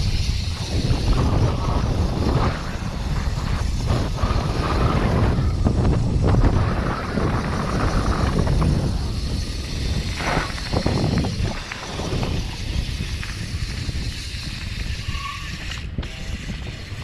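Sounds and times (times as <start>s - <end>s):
bike knocking and rattling: 0.0s - 17.0s
wind buffeting microphone: 0.0s - 17.0s
tyres rumbling on gravel: 0.2s - 16.4s.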